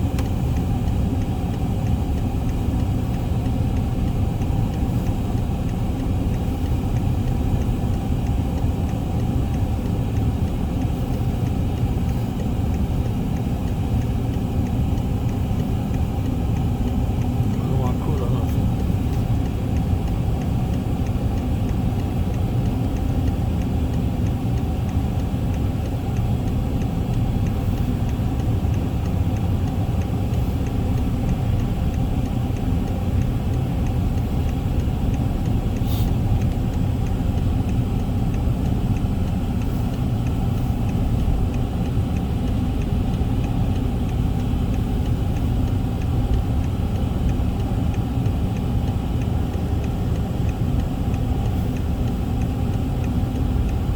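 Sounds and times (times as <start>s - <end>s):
car engine and road rumble: 0.0s - 53.9s
faint ticking: 0.0s - 53.9s.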